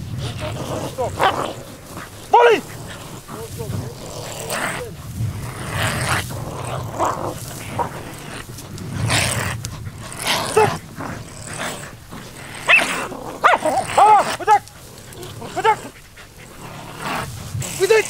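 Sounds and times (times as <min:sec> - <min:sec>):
dogs barking and yelping: 0:00.0 - 0:18.0.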